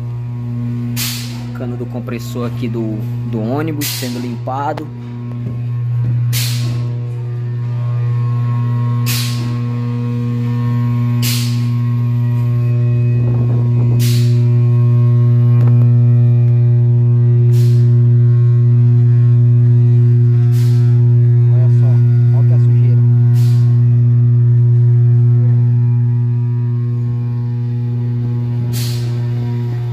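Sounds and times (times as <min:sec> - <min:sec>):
machine low hum: 0:00.0 - 0:29.9.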